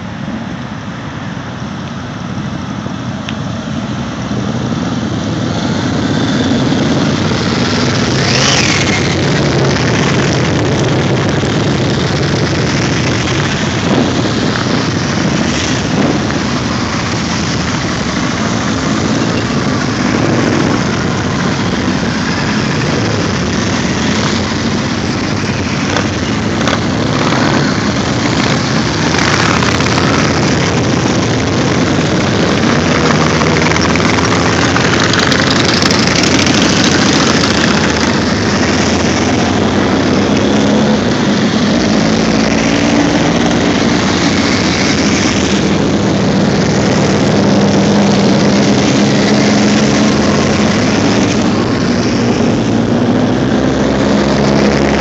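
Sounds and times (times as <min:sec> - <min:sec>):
motorcycle revving: 0:00.0 - 0:55.0
motorcycles riding past: 0:03.8 - 0:55.0.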